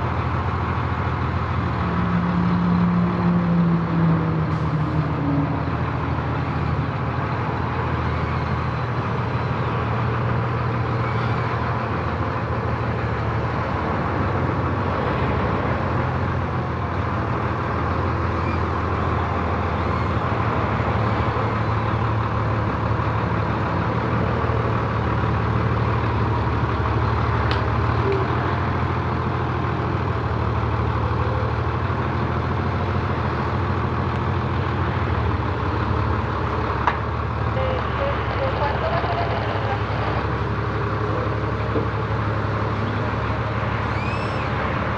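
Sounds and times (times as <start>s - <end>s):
tractor engine drone: 0.0s - 44.9s.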